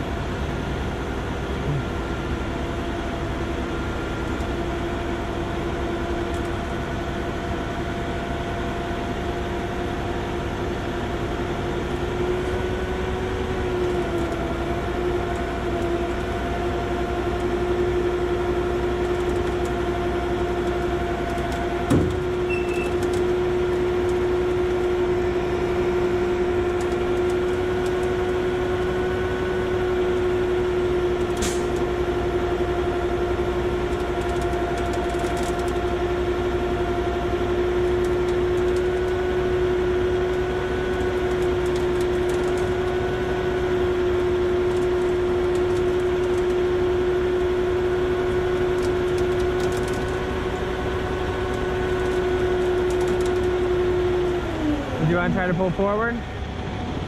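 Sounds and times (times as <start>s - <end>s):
truck engine and winch running: 0.0s - 57.0s.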